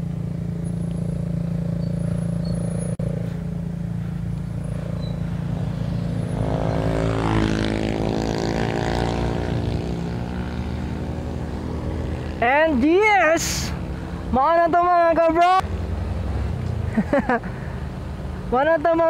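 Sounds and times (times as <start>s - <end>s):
motorcycle engine running: 0.0s - 19.0s
vehicle passing: 0.6s - 19.0s.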